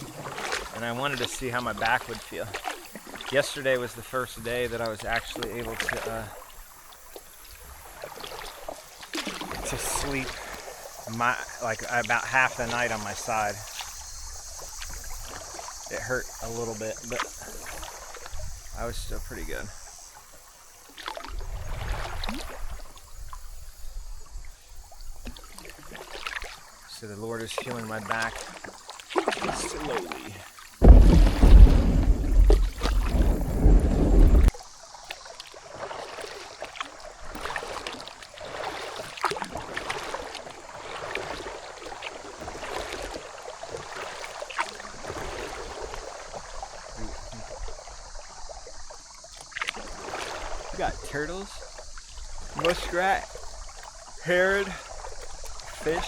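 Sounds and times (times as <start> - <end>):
water dripping off paddle: 0.0 - 18.8, 25.1 - 56.0
paddle splashing into water: 0.0 - 20.0, 20.7 - 56.0.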